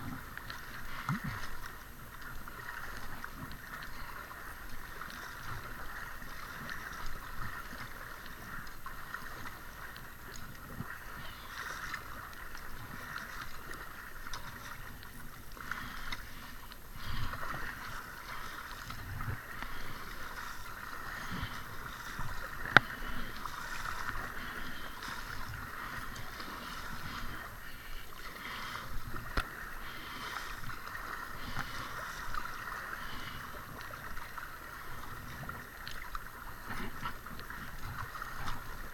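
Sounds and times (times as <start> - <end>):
paddle strokes splashing water: 0.0 - 38.9.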